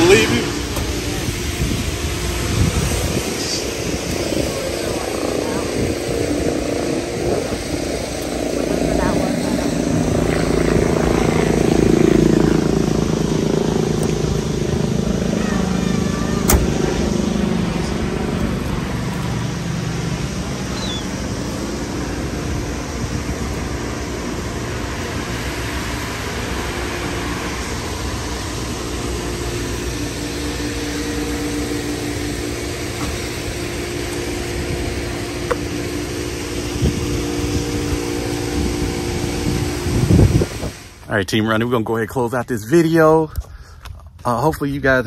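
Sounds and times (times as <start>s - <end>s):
droning tone: 0.0s - 41.0s
machine hum with low rumble: 0.0s - 45.0s.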